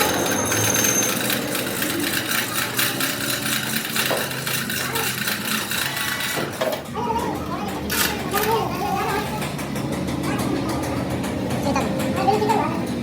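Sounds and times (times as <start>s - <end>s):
rapid clicks and metallic clatter: 0.0s - 13.0s.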